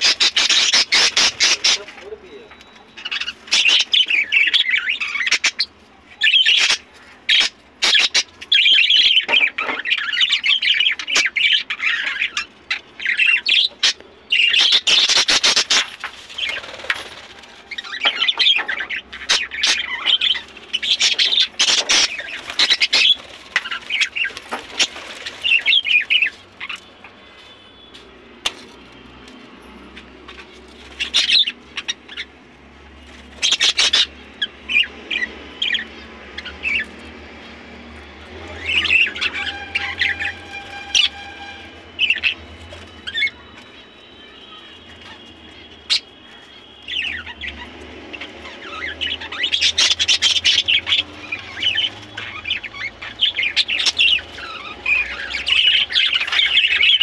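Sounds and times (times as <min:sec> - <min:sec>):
budgerigars chattering and squawking: 0:00.0 - 0:27.6, 0:28.5 - 0:57.0.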